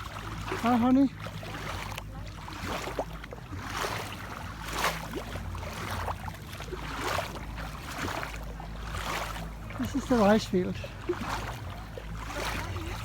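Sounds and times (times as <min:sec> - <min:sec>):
footsteps squelching in mud: 0:00.0 - 0:13.0.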